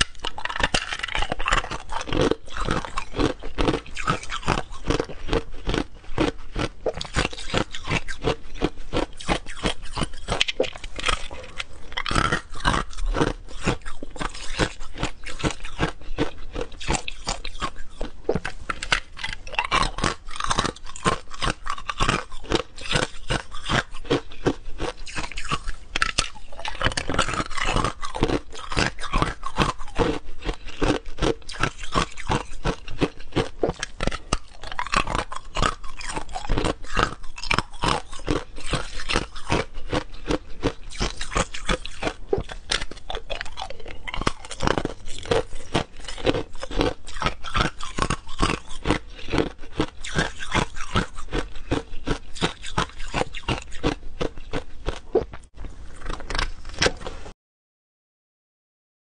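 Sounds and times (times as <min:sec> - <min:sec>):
person chewing hard ice: 0:00.0 - 0:57.3.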